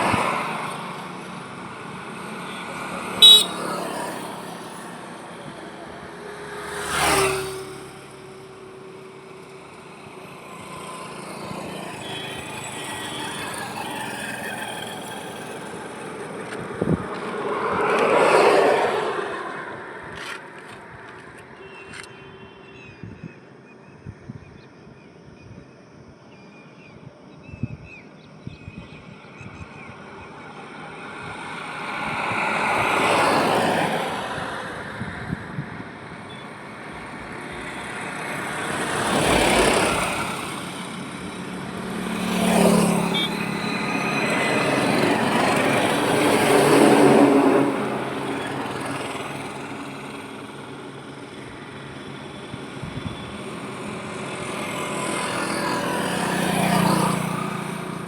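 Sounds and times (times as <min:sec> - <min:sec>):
road traffic passing: 0:00.0 - 0:25.3, 0:29.0 - 0:58.0.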